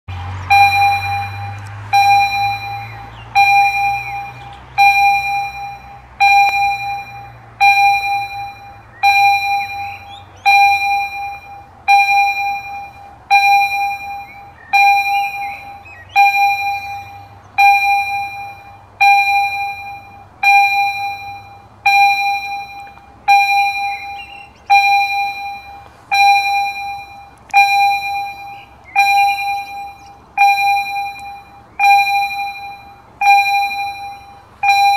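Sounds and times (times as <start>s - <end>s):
level-crossing warning bell: 0.4s - 34.9s.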